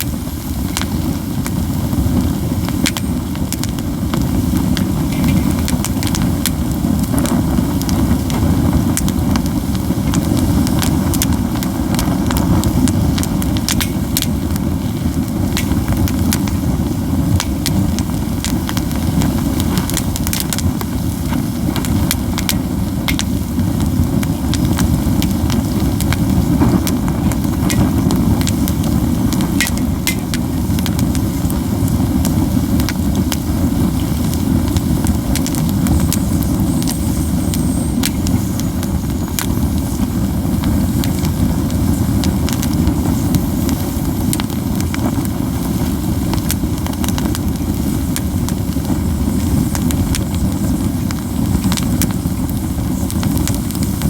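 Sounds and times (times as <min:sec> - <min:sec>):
campfire crackling and popping: 0:00.0 - 0:54.0
low fire rumble: 0:00.0 - 0:54.0.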